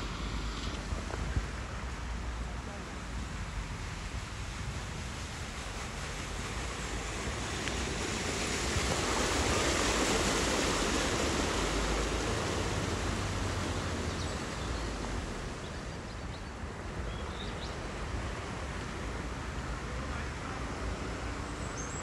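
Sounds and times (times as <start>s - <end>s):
low engine rumble: 0.0s - 21.8s
vehicle tyres splashing through water: 0.0s - 22.0s.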